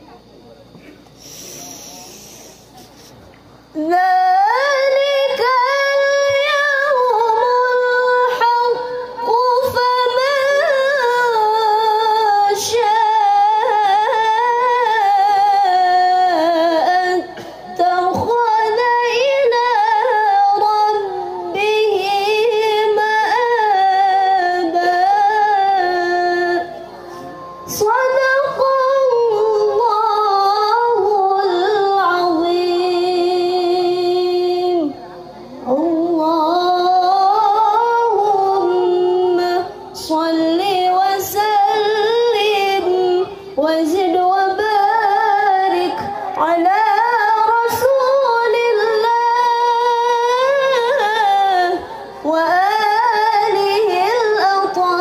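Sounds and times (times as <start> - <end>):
woman chanting melodic recitation: 3.7 - 55.0.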